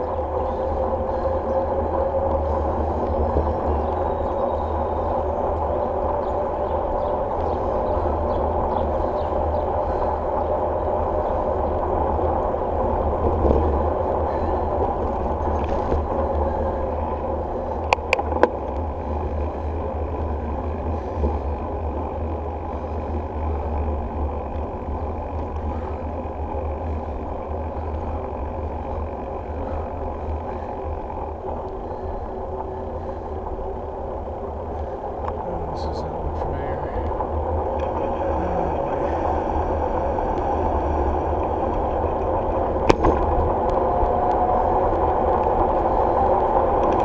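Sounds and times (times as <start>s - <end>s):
wind and tyre rumble: 0.0s - 47.0s.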